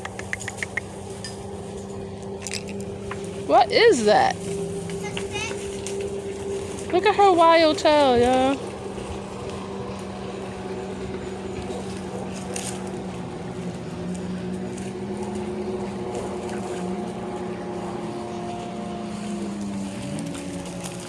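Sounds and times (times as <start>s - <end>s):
motor droning hum: 0.0s - 21.0s.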